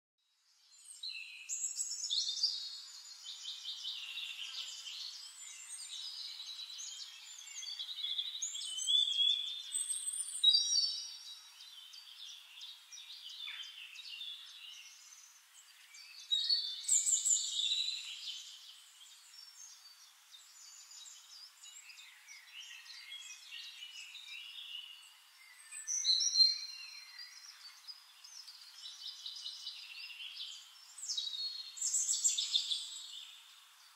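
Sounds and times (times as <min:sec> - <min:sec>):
songbirds singing: 0:00.3 - 0:33.9.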